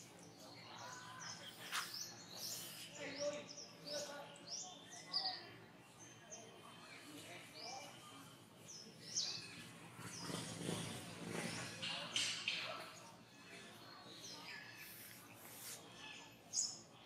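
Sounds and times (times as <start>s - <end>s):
birds chirping: 0.0s - 17.0s
faint background voices: 0.0s - 17.0s.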